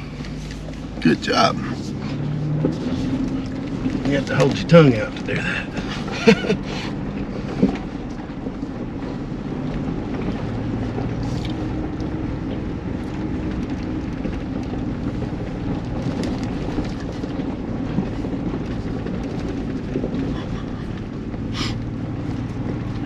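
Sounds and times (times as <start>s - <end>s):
truck engine running low: 0.0s - 23.0s.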